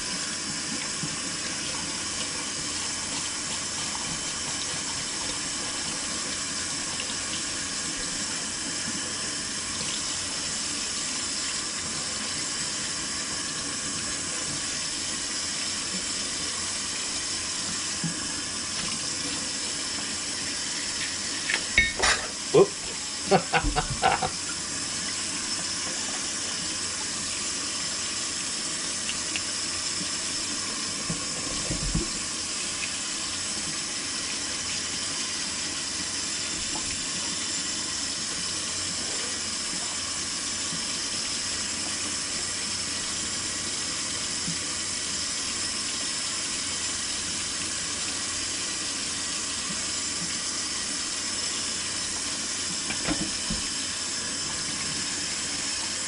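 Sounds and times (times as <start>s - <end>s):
kitchen tap running: 0.0s - 56.0s.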